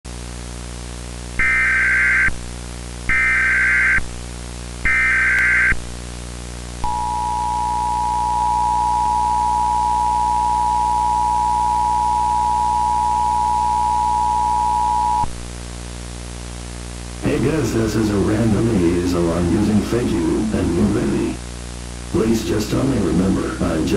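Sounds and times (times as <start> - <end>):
steady low hum: 4.0 - 23.9.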